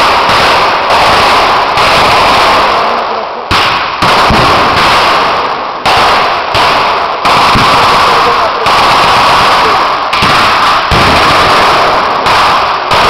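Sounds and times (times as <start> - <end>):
blank gunshots: 0.0 - 13.0.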